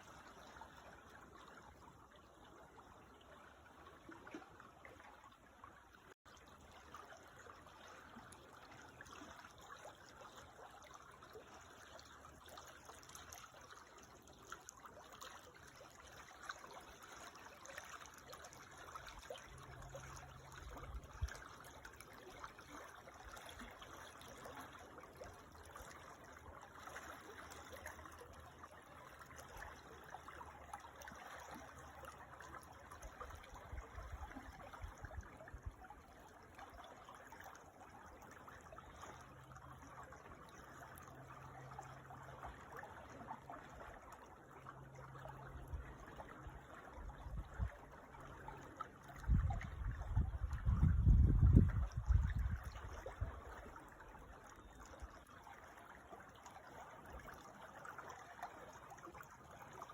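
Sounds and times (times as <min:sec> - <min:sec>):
creek trickling: 0:00.0 - 0:59.9.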